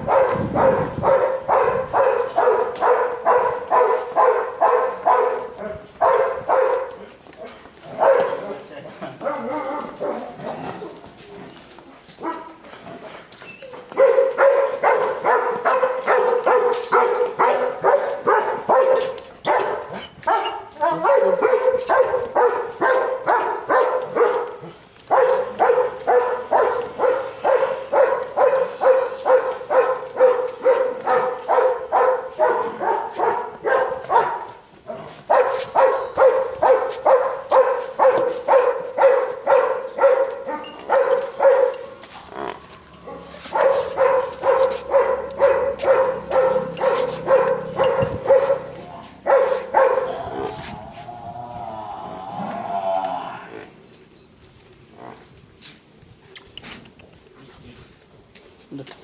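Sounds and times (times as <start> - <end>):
dog barking: 0.0 - 11.5, 12.2 - 13.2, 13.9 - 42.0, 42.6 - 50.8.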